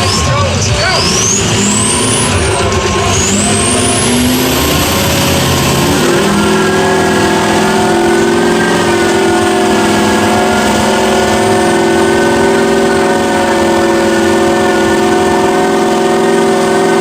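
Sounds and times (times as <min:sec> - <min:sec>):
truck engine revving with whine: 0:00.0 - 0:17.0.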